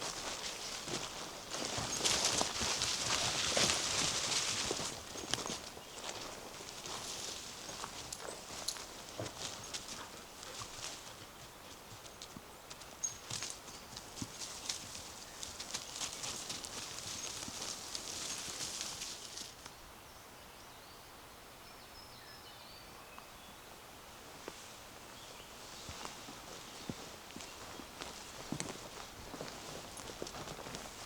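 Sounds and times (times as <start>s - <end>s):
footsteps crunching on forest path: 0.0s - 19.6s, 24.2s - 31.0s.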